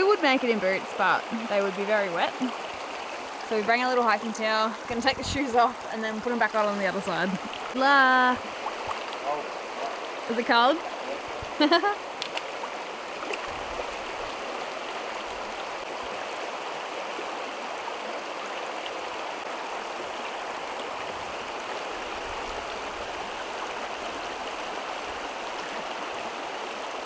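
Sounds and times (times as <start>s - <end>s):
creek rushing over rocks: 0.0s - 27.0s.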